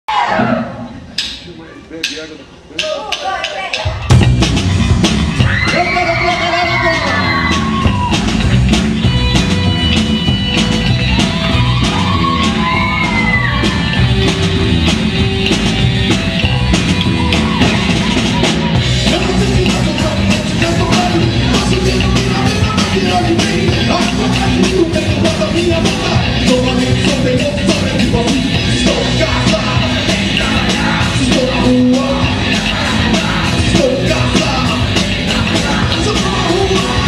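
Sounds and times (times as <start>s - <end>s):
fast steady drumbeat: 1.1s - 37.0s
rock band playing live: 3.6s - 37.0s
bass guitar: 3.8s - 37.0s
electric guitar: 4.1s - 37.0s.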